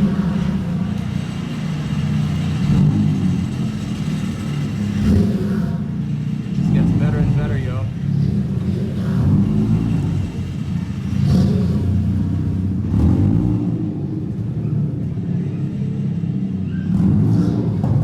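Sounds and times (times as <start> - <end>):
car engines rumbling: 0.0 - 18.0.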